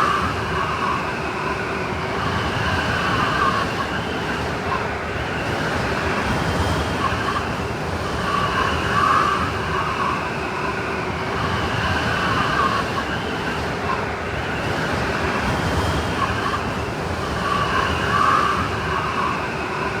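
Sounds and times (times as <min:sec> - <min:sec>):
blizzard wind with whistling gusts: 0:00.0 - 0:20.0.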